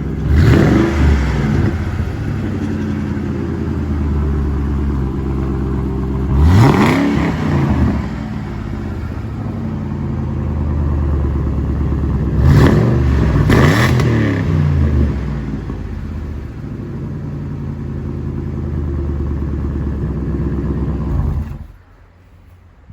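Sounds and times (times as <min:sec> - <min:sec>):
car engine idling and revving: 0:00.0 - 0:22.2.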